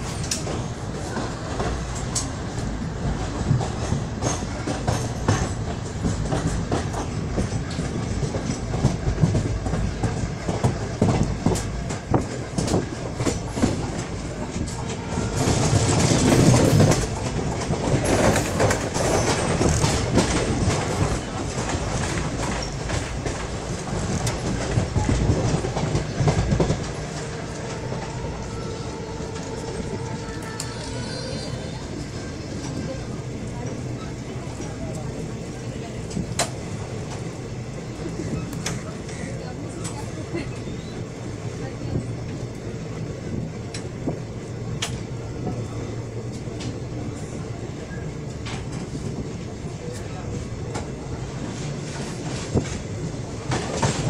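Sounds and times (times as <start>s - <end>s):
train wheels clicking over rail joints: 0.0s - 31.3s, 31.9s - 54.0s.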